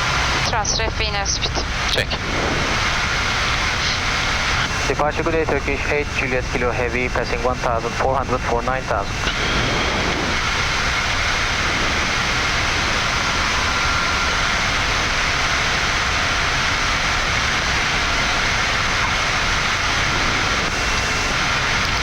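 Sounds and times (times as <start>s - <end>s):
aircraft cockpit rushing noise: 0.0s - 22.0s.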